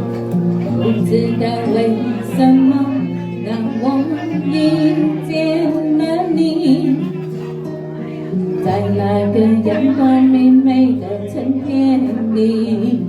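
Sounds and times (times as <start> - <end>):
slow pop ballad music: 0.0 - 13.0.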